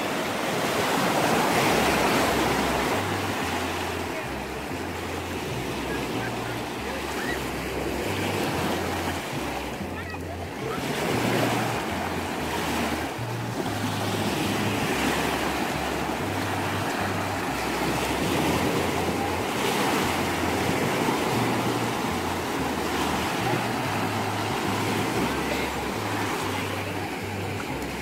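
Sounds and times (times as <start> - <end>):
waves washing onto sandy shore: 0.0 - 28.0
background music with bass line: 1.3 - 28.0.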